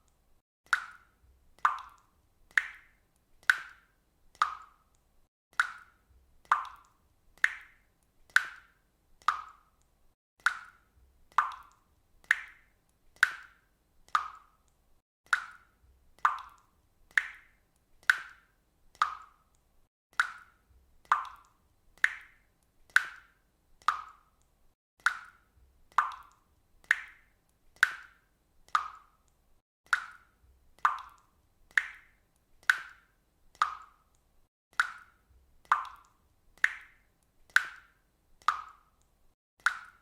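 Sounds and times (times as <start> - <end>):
water drops plopping: 0.7 - 3.8, 4.4 - 4.8, 5.5 - 9.8, 10.4 - 14.6, 15.3 - 19.4, 20.2 - 24.4, 25.0 - 29.3, 29.9 - 33.0, 34.8 - 38.9, 39.6 - 40.0.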